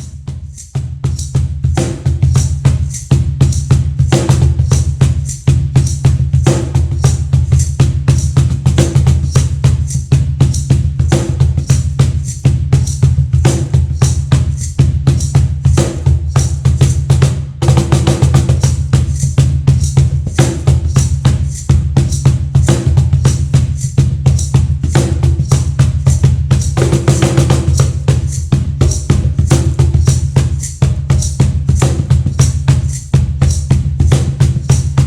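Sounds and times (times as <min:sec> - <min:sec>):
cajon played by hand: 0:00.0 - 0:35.0.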